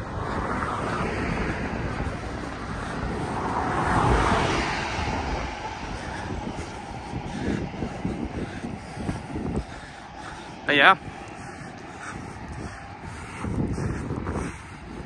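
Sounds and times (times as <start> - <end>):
vehicle passing by: 0.0 - 15.0.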